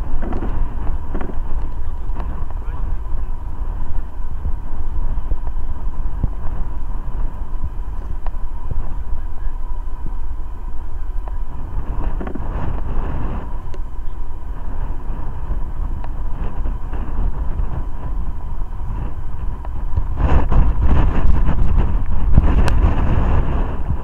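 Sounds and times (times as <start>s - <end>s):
jet engines idling whine: 0.0s - 24.0s
wind rumble on microphone: 0.0s - 24.0s.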